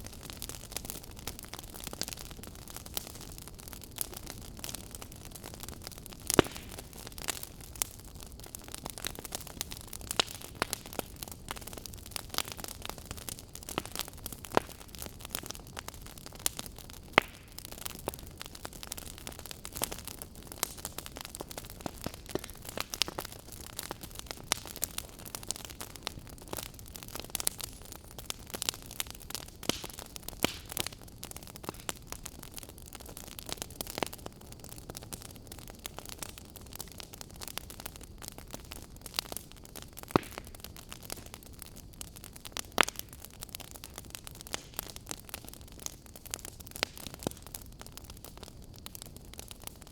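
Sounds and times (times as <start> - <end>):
fire crackling and popping: 0.0 - 49.9
fire hiss and rumble: 0.0 - 49.9.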